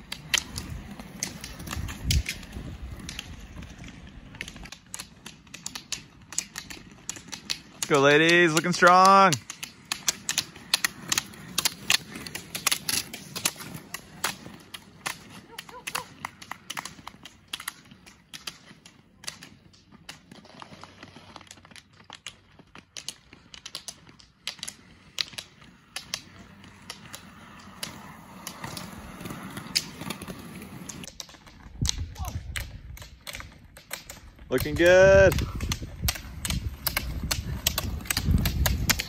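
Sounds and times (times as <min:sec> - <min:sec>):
roller-ski wheels rumbling: 0:00.0 - 0:39.0
ski pole tips clicking on asphalt: 0:00.0 - 0:39.0.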